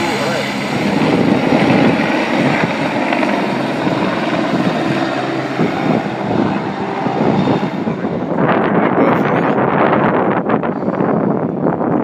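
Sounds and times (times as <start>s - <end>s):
helicopter engine noise: 0.0s - 12.0s
helicopter rotor chopping: 0.0s - 12.0s.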